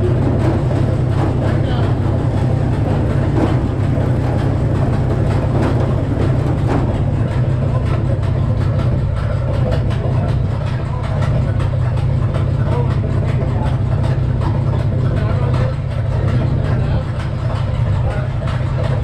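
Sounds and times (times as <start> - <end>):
rattling clatter: 0.0 - 19.0
sawmill engine drone: 0.0 - 19.0.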